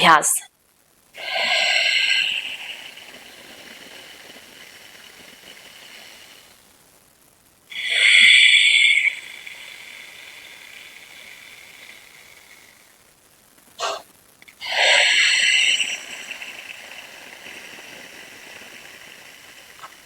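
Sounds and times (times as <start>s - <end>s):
breathing through narrowed throat: 1.2s - 6.6s, 7.7s - 12.9s, 13.8s - 14.0s, 14.6s - 20.0s.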